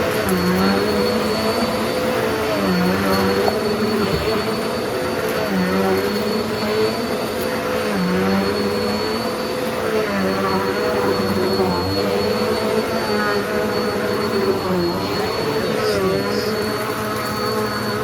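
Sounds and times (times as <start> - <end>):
vacuum cleaner motor whine: 0.0 - 18.0.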